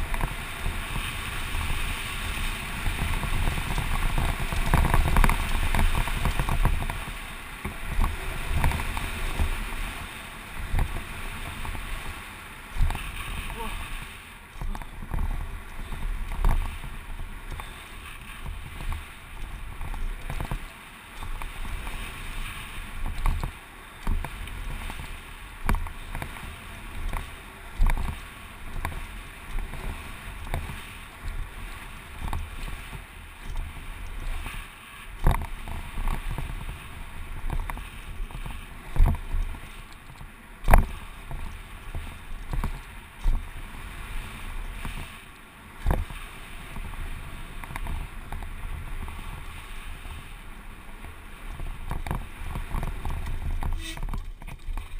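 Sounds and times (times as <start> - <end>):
bike rattles and knocks: 0.0 - 45.2, 45.8 - 54.9
tyres rolling over gravel: 0.0 - 54.9
wind buffeting microphone: 0.0 - 54.9.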